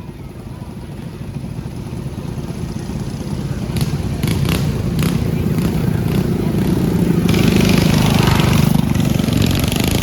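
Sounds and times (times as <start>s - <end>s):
mini bike engines rumbling: 0.0s - 10.0s
sharp engine crackles: 0.7s - 10.0s.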